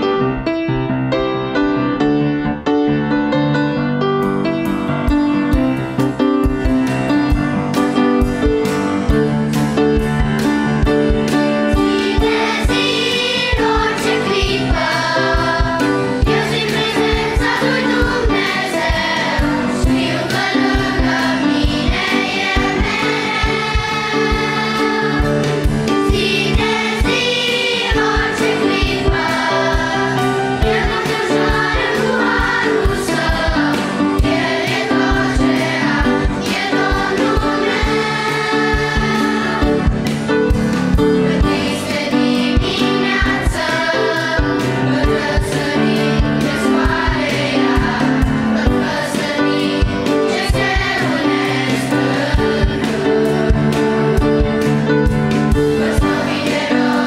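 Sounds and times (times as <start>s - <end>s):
instrumental accompaniment with beat: 3.6s - 57.0s
children's choir singing: 10.4s - 57.0s.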